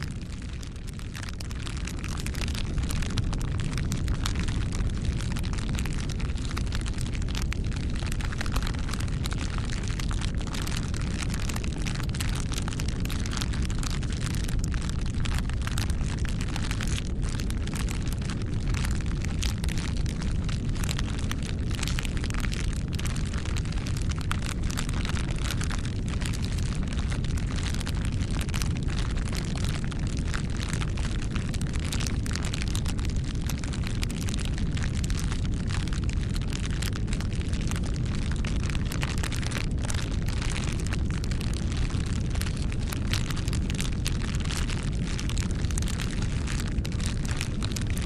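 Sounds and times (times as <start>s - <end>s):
fire crackling and popping: 0.0s - 48.0s
fire rumbling: 0.0s - 48.0s.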